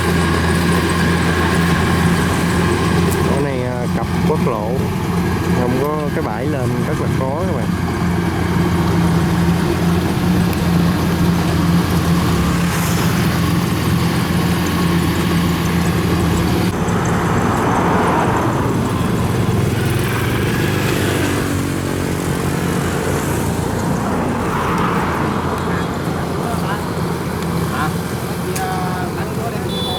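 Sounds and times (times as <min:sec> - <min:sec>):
farm machine engine running: 0:00.0 - 0:29.9.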